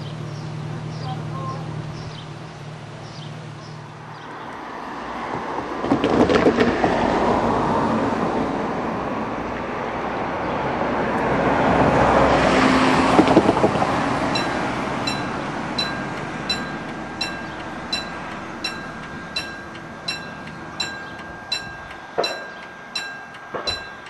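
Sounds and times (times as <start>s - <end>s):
passing train rumble: 0.0s - 24.0s.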